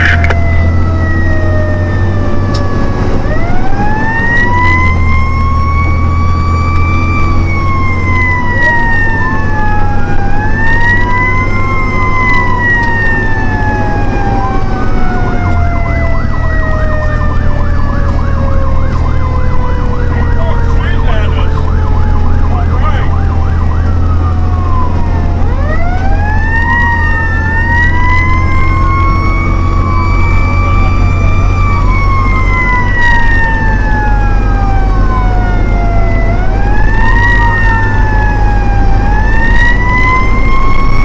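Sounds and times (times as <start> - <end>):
diesel engine drone: 0.0 - 41.0
fire engine sirens wailing: 0.0 - 41.0
siren warbling yelp: 0.0 - 41.0.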